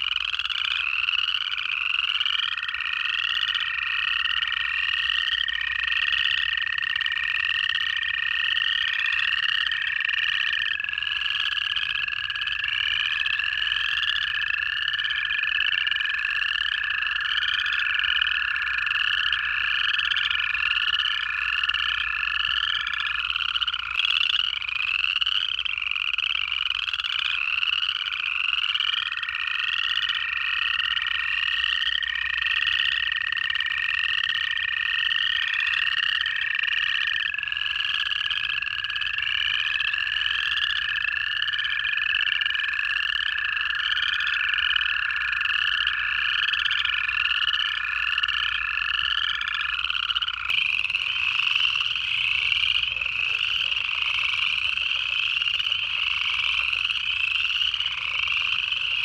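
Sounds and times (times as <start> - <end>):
chorus frogs rising trills: 0.0 - 59.0
toads long steady trills: 0.0 - 59.0.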